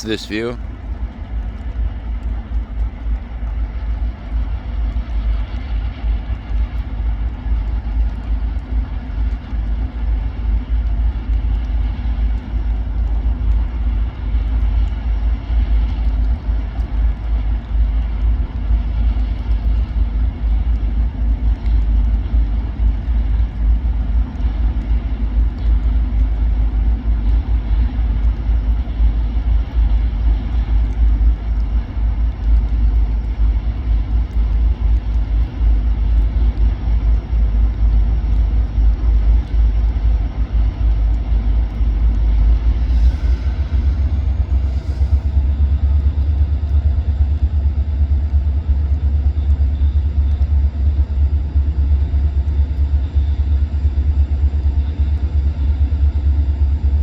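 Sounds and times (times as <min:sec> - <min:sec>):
car engine and tyre rumble: 0:00.6 - 0:52.6.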